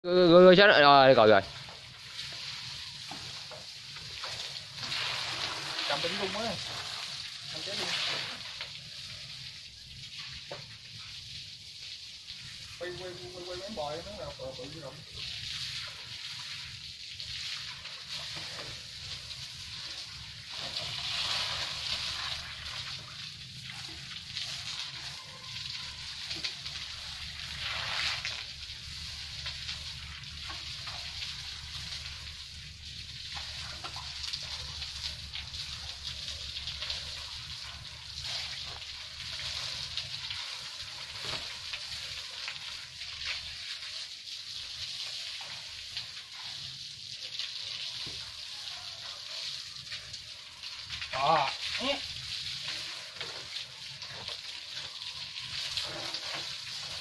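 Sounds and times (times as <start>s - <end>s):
hose water spraying: 0.1s - 57.0s
water splashing on concrete: 0.1s - 57.0s.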